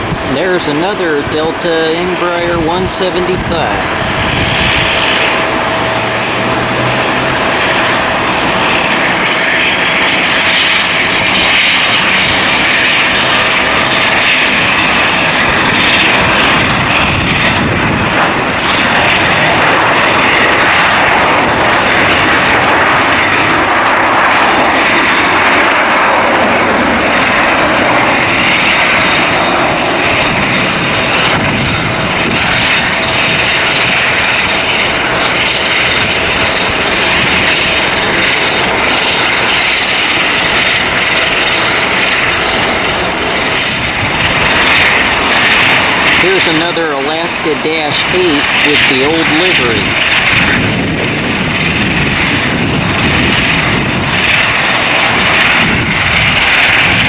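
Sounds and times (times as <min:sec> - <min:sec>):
jet engines running: 0:00.0 - 0:57.0
thin engine whine: 0:00.0 - 0:57.0.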